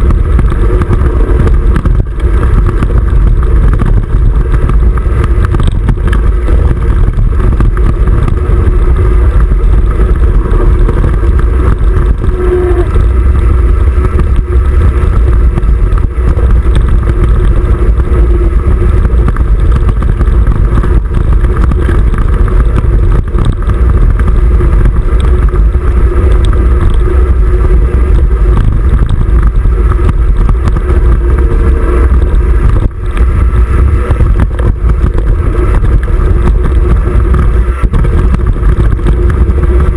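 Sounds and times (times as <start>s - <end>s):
bike tyres on packed dirt: 0.0s - 39.9s
wind rumble over camera: 0.0s - 39.9s.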